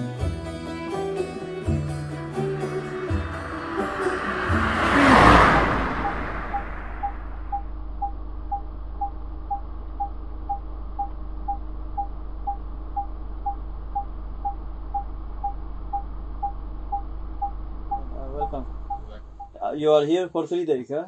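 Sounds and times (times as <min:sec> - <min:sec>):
low hum: 0:00.0 - 0:19.6.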